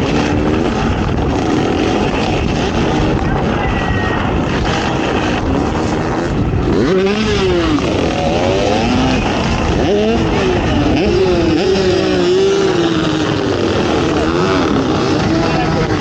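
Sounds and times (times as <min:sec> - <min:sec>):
atv engine revving: 0:00.0 - 0:16.0
constant noisy rush: 0:00.0 - 0:16.0.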